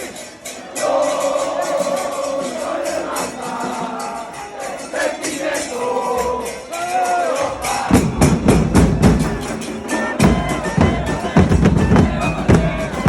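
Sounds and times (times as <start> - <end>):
crowd chanting and singing: 0.0 - 13.0
drums beating loudly: 0.0 - 13.0.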